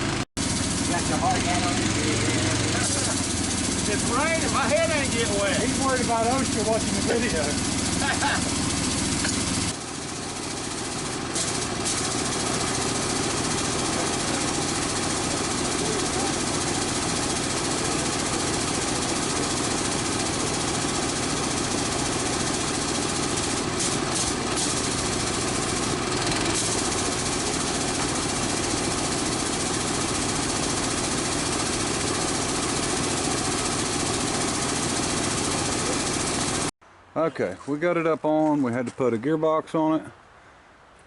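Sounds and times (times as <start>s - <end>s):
engine idling: 0.0s - 36.7s.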